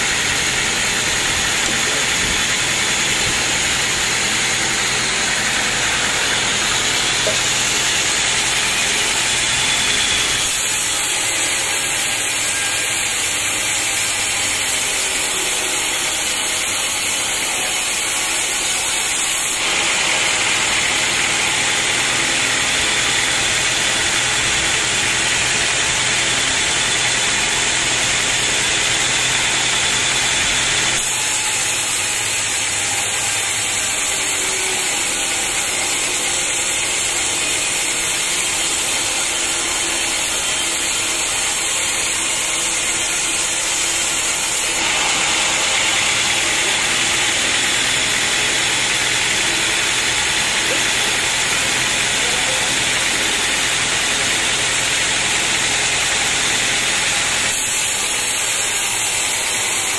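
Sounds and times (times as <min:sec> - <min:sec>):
saw blade hissing through wood: 0:00.0 - 0:59.9
saw machinery running: 0:00.0 - 0:59.9.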